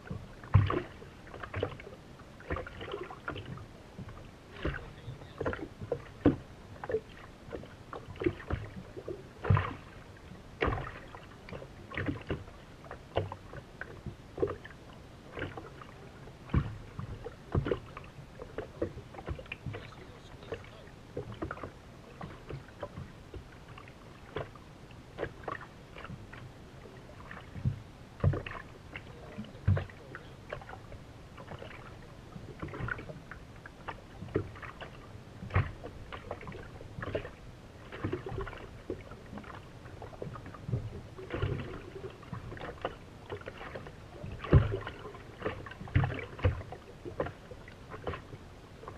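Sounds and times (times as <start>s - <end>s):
water slapping against boat hull: 0.0s - 48.9s.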